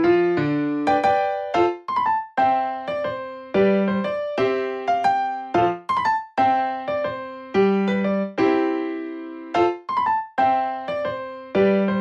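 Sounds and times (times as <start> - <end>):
light piano keyboard tune: 0.0 - 12.0.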